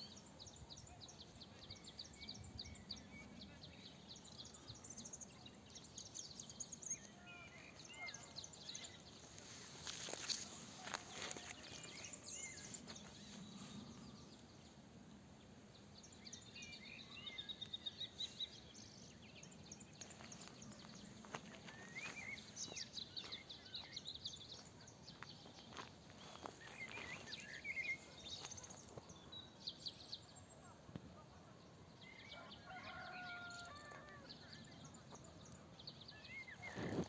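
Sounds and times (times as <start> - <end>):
faint outdoor background noise: 0.0 - 37.0
small birds chirping: 0.0 - 37.0.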